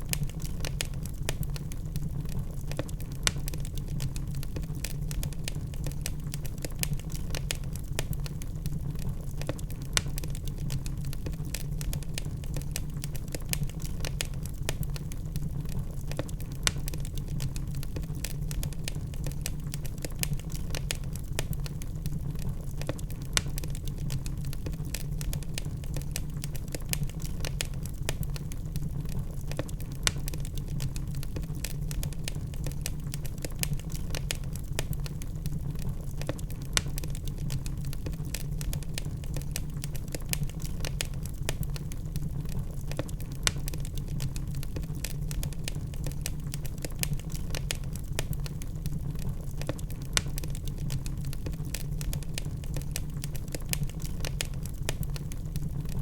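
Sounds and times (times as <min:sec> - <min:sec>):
burning logs crackling and popping: 0:00.0 - 0:56.0
fire flames rumbling: 0:00.0 - 0:56.0.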